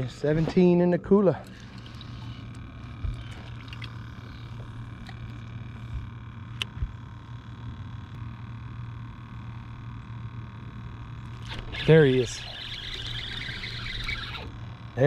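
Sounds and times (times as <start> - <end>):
faint high whine: 0.0 - 15.0
small electric motor humming: 1.2 - 15.0.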